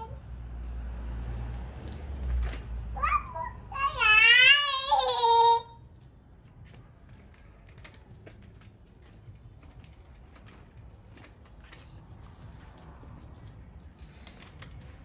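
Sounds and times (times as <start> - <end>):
child's bicycle clicks and taps: 1.8 - 15.0.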